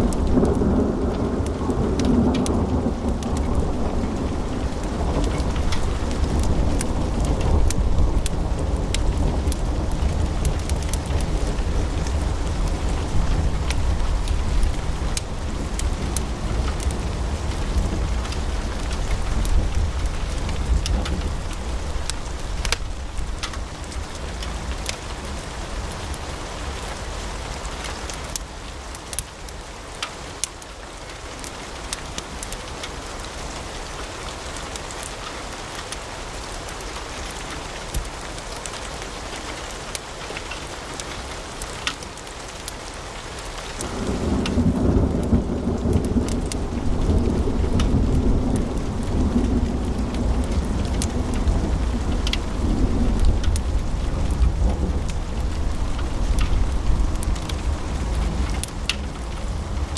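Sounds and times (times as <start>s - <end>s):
fire crackling and popping: 0.0s - 27.0s, 27.7s - 33.4s, 34.0s - 59.9s.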